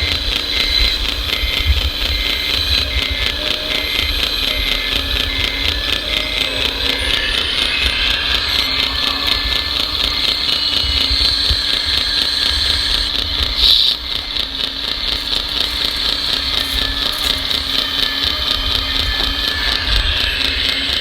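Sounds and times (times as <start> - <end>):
model motors whining: 0.0 - 21.0.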